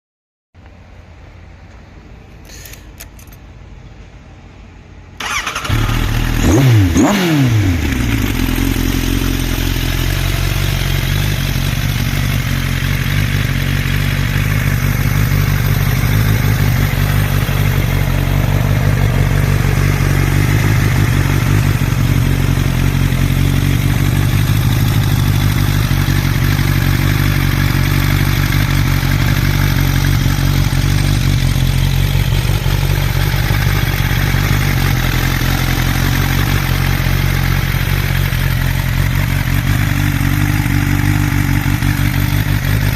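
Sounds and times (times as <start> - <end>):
motorcycle engine idling: 5.2 - 42.9.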